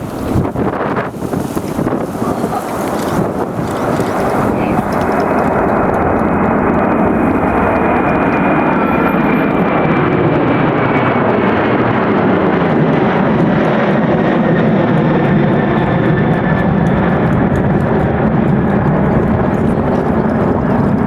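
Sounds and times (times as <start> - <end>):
jet engines roaring: 0.0 - 21.0
high-pitched engine whine: 2.5 - 21.0.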